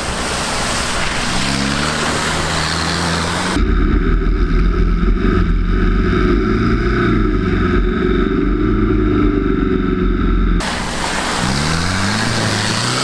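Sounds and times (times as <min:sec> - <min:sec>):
buggy engine rumbling: 0:00.0 - 0:13.0.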